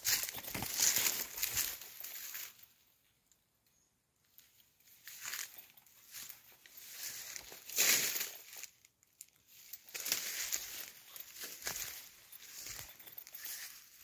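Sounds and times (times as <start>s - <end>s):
dry leaves rustling and crackling: 0.0s - 2.7s, 4.8s - 14.0s.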